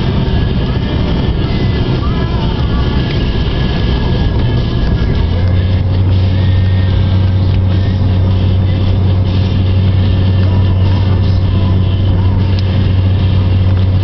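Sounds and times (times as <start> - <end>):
vehicle engine and tyre drone: 0.0 - 14.0.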